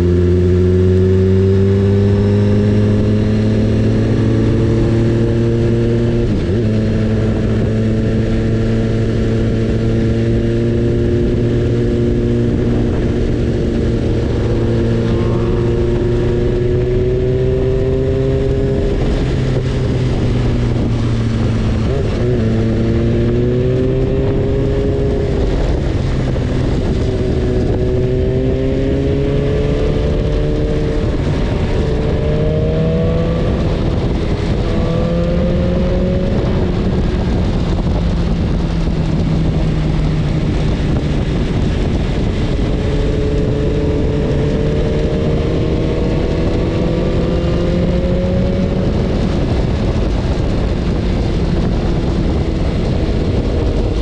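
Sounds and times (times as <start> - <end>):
motorcycle engine accelerating: 0.0 - 54.0
wind and road noise: 0.0 - 54.0.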